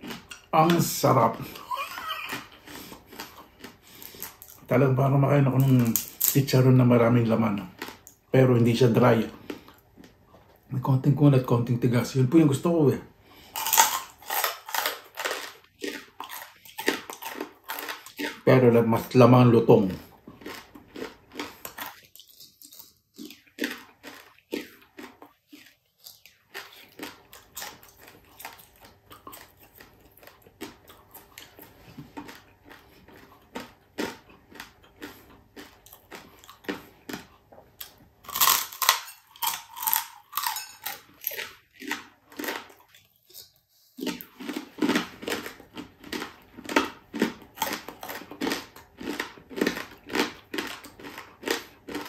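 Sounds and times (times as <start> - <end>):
crunching and chewing: 0.0 - 52.0.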